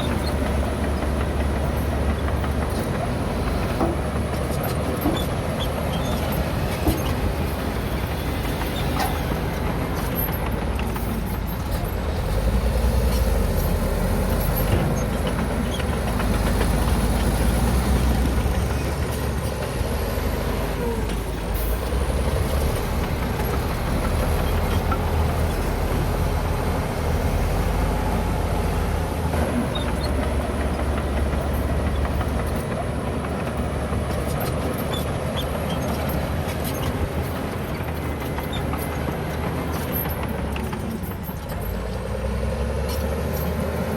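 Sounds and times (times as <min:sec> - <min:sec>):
heavy machinery diesel engine rumble: 0:00.0 - 0:43.9.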